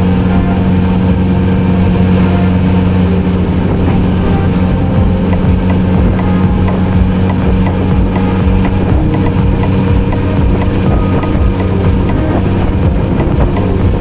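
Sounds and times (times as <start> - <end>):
motorcycle engine cruising: 0.0 - 14.0
wind noise on microphone: 0.0 - 14.0.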